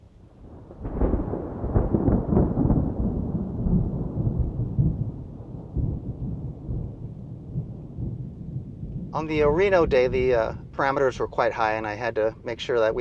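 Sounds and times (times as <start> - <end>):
thunderclap with rumble: 0.3 - 13.0.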